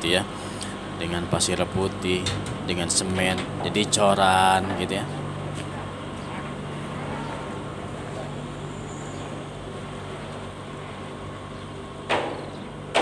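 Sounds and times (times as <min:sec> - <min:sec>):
diesel machinery idling: 0:00.0 - 0:13.0.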